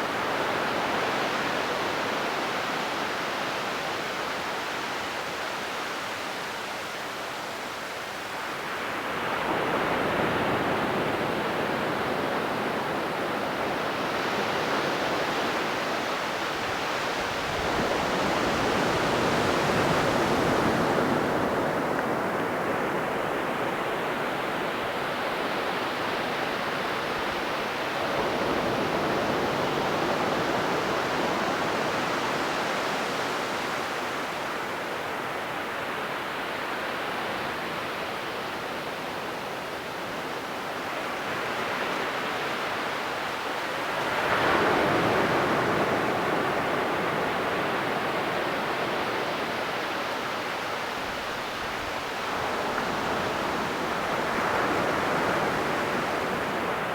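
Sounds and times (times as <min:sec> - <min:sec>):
ocean waves breaking on beach: 0:00.0 - 0:56.9.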